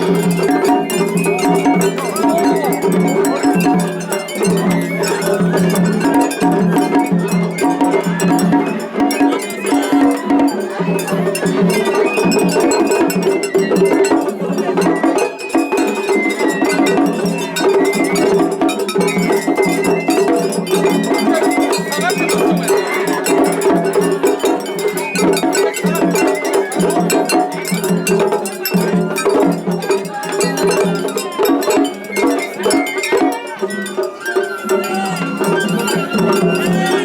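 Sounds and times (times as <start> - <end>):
crowd voices: 0.0 - 37.0
festival bands playing: 0.0 - 37.0.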